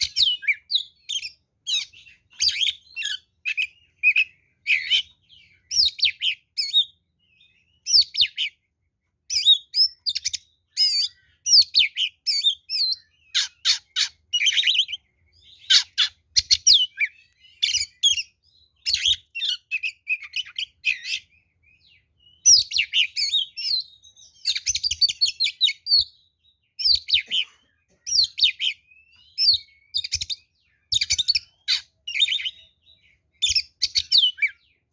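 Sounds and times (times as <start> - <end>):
songbird whistling and chattering: 0.0 - 8.6, 9.3 - 34.9.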